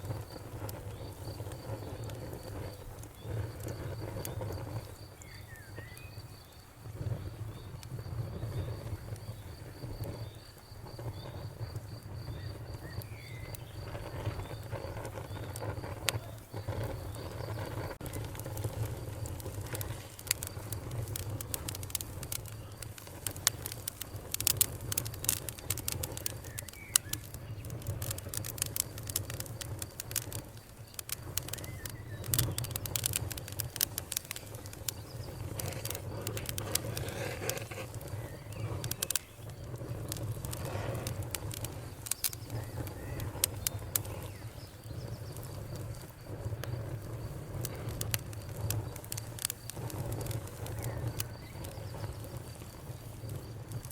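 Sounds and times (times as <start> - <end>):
fire crackling: 0.0 - 53.9.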